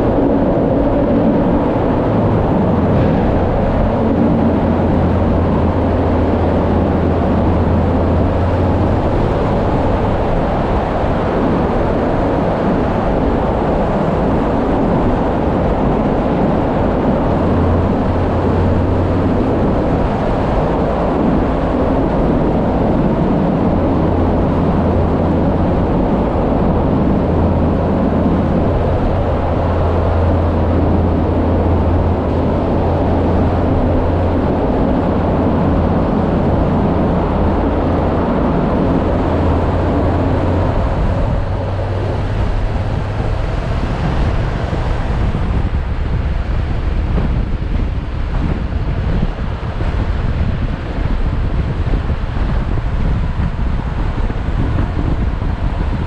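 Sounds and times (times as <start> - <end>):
motorcycle engine hum: 0.0 - 56.0
wind and road noise: 0.0 - 56.0.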